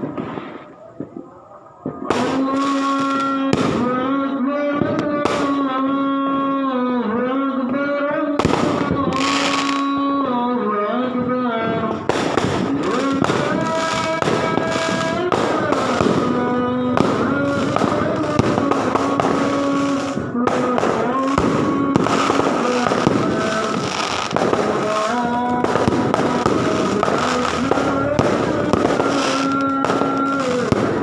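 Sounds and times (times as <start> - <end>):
fireworks crackling and popping: 0.0 - 6.2, 8.3 - 31.0
person chanting: 0.0 - 31.0.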